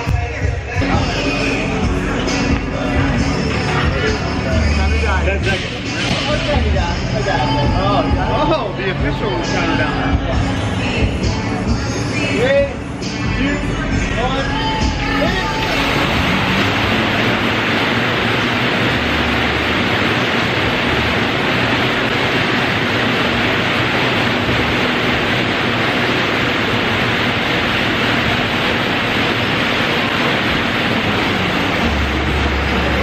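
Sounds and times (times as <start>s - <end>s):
air bike fans whooshing: 0.8s - 33.0s.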